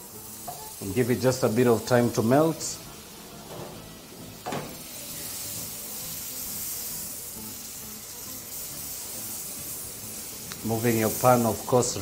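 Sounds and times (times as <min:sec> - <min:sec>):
butter sizzling in frying pan: 0:00.0 - 0:12.0
soft background music: 0:00.0 - 0:12.0.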